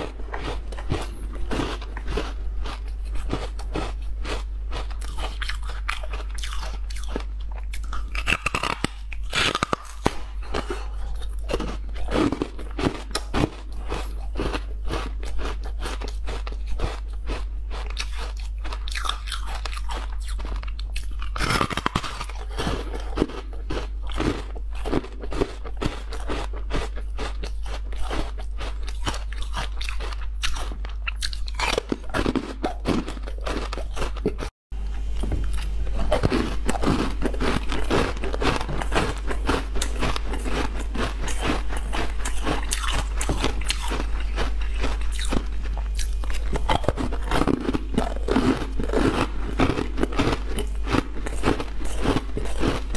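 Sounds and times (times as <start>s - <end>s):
ice crunching while chewed: 0.0s - 52.9s.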